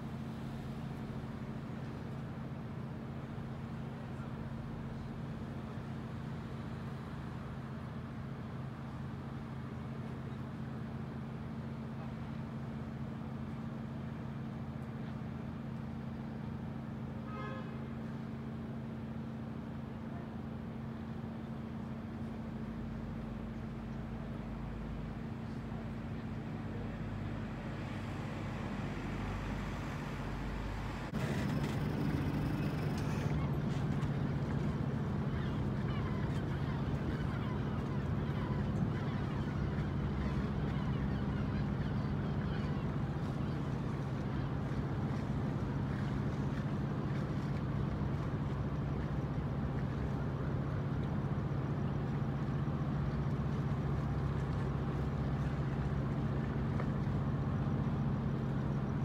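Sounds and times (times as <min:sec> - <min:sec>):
ship engines humming: 0:00.0 - 0:59.0.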